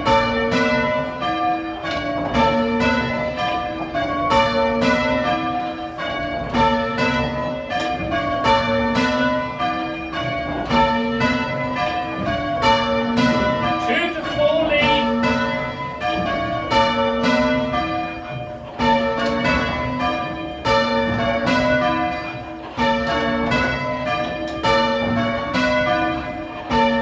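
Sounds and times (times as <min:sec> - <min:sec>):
church tower bells ringing: 0:00.0 - 0:27.0.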